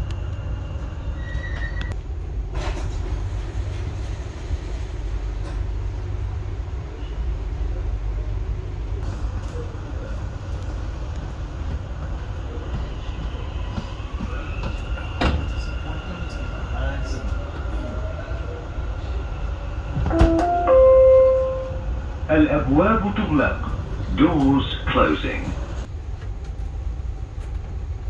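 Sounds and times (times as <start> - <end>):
train wheels and motors rumbling: 0.0 - 28.0.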